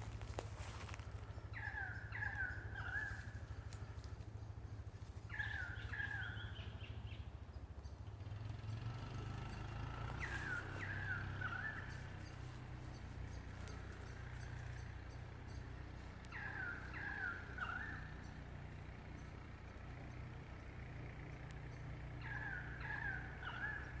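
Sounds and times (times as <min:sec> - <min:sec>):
bird calling: 0:00.7 - 0:24.0.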